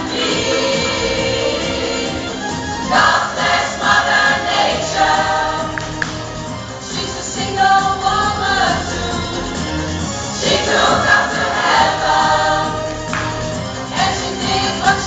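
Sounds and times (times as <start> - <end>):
low backing music: 0.0 - 15.0
pop choir singing: 0.0 - 15.0.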